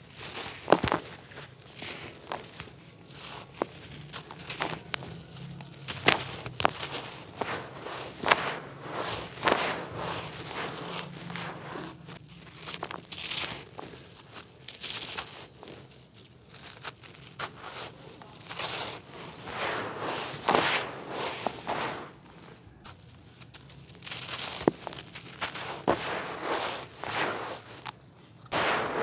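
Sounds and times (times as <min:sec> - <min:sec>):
hands crunching dry dirt: 0:00.0 - 0:29.0
sand grains pouring: 0:00.2 - 0:15.8, 0:16.8 - 0:23.1, 0:23.8 - 0:29.0.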